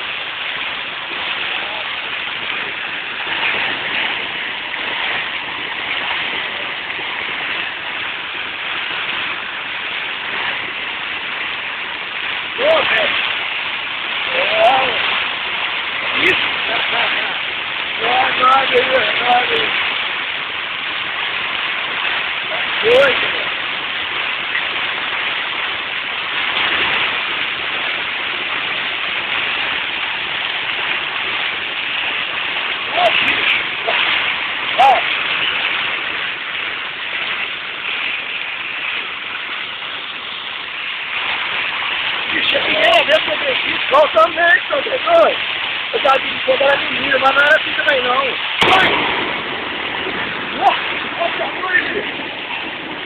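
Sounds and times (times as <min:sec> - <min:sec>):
hail and heavy rain pelting: 0:00.0 - 0:53.0.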